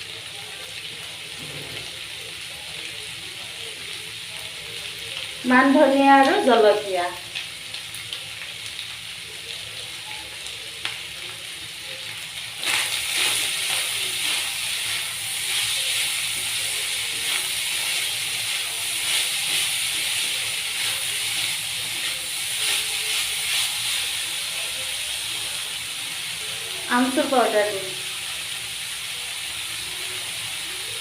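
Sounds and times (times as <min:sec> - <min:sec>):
food sizzling in oil: 0:00.0 - 0:31.0.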